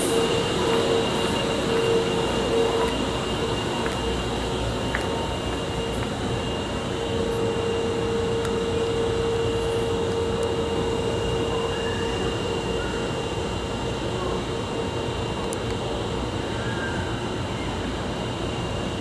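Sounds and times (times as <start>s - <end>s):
mid-pitched whine: 0.0s - 19.0s
subway train rumbling hum: 0.0s - 19.0s.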